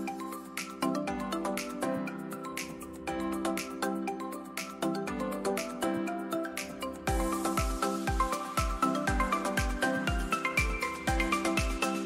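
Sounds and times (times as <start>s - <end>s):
bright melody notes: 0.0s - 12.0s.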